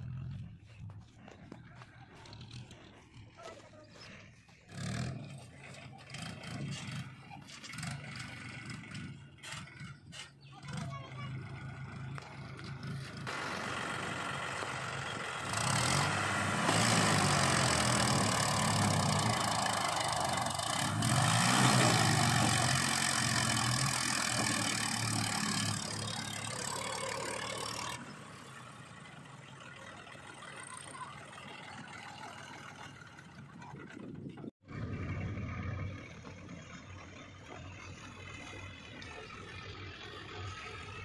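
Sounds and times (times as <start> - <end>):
tractor diesel engine: 0.0 - 41.0.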